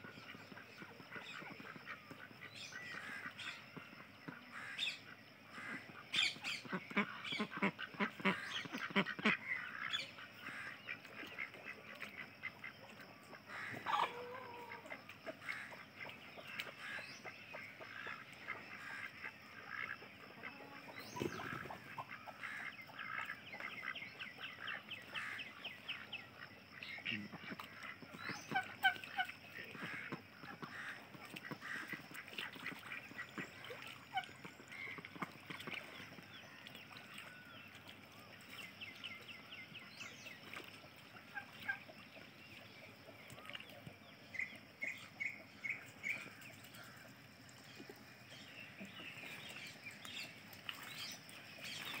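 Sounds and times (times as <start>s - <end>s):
ducks calling: 0.0s - 39.3s, 39.9s - 52.0s.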